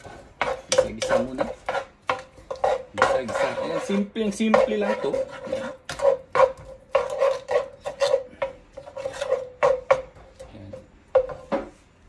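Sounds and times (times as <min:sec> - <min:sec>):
wooden spatula scraping frying pan: 0:00.0 - 0:10.5.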